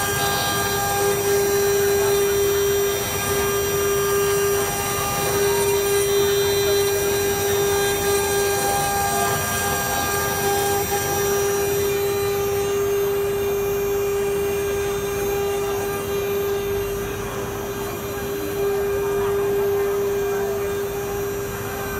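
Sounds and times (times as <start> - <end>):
router spindle whining: 0.0 - 21.9.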